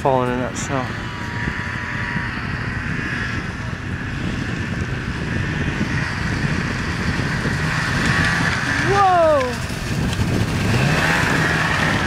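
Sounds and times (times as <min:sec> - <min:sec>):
distant snowmobile engine: 0:00.0 - 0:12.0
wind on microphone: 0:00.0 - 0:12.0.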